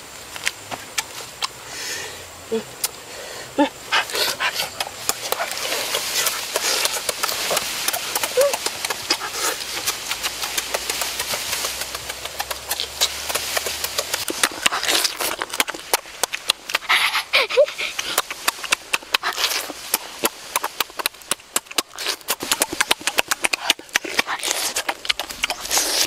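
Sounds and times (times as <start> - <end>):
steady high hiss: 0.0 - 25.0
shrimp being peeled and chewed: 4.0 - 26.0.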